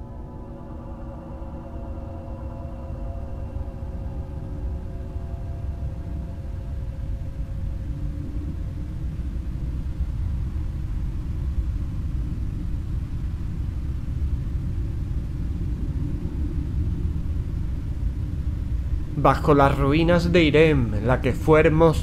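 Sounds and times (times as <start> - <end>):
deep ambient rumble: 0.0 - 22.0.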